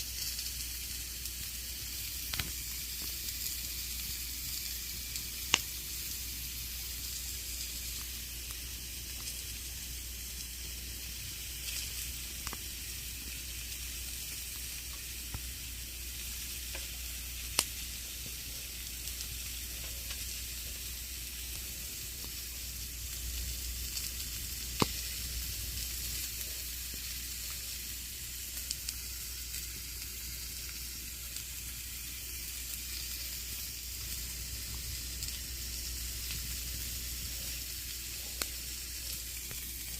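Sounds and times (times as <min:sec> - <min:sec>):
campfire crackling: 0:00.0 - 0:39.9
fire popping: 0:00.0 - 0:39.9.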